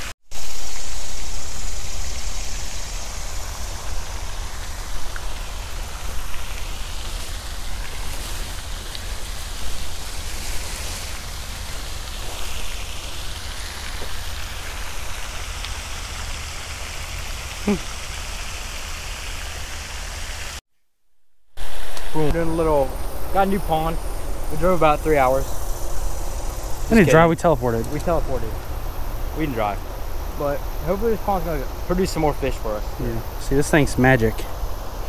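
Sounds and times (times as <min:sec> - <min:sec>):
shrubs rustling: 0:00.4 - 0:20.6, 0:21.6 - 0:35.0.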